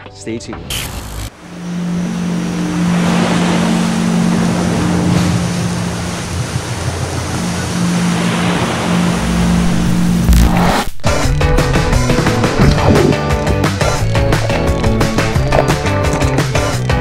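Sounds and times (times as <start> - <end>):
steady low hum: 1.3 - 17.0.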